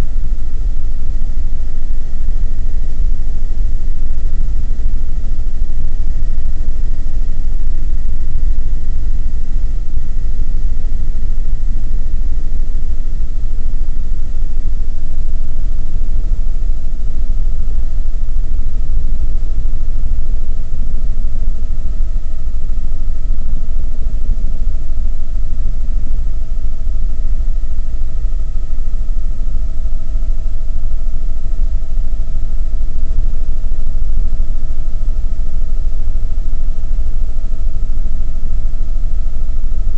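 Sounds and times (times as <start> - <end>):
constant engine whine: 0.0 - 39.9.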